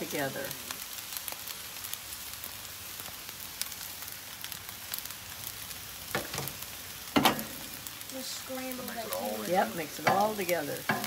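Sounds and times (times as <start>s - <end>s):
crackling pops of frying oil: 0.0s - 11.0s
food sizzling on griddle: 0.0s - 11.0s.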